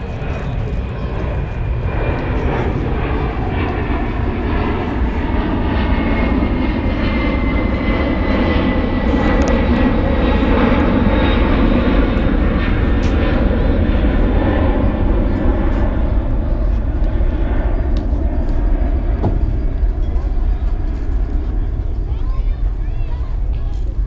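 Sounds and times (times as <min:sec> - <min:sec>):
engine-like drone: 0:00.0 - 0:24.0.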